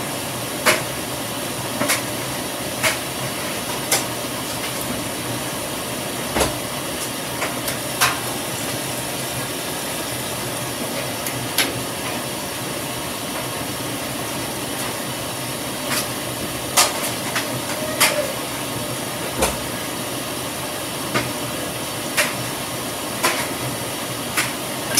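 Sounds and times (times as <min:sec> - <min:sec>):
water running into washing machine: 0:00.0 - 0:24.9.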